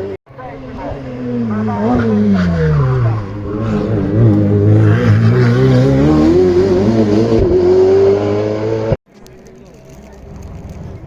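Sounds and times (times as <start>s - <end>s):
race car engine revving: 0.0s - 9.0s.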